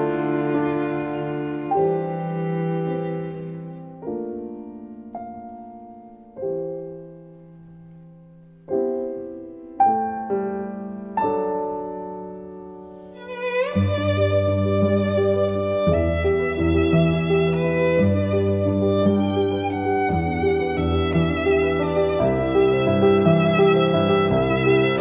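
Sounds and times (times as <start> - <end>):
violin: 0.0 - 6.9, 11.2 - 25.0
slow piano chords: 0.0 - 25.0.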